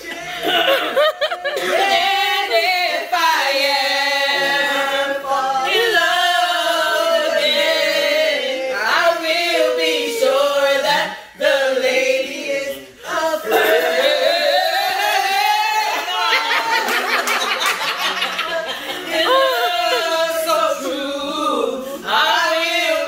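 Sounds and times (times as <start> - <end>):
women singing together: 0.0 - 23.0.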